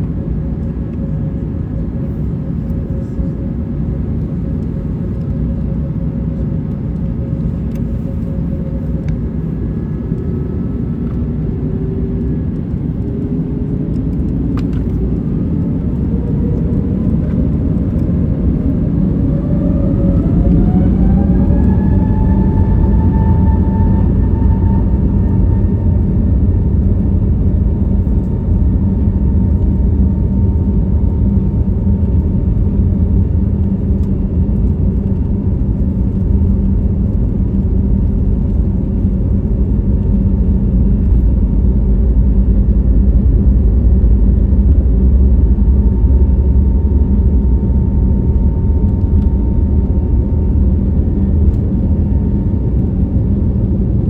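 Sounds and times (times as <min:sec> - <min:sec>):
airliner cabin engine rumble: 0:00.0 - 0:54.0
faint steady whine: 0:00.0 - 0:54.0.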